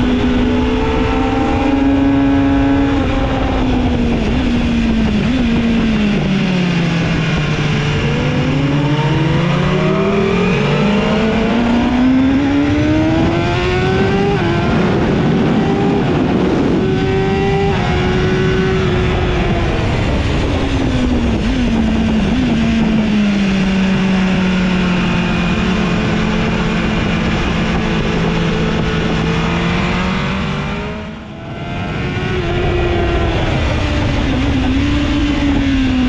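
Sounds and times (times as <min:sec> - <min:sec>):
motorcycle engine at speed: 0:00.0 - 0:36.0
wind rush: 0:00.0 - 0:36.0.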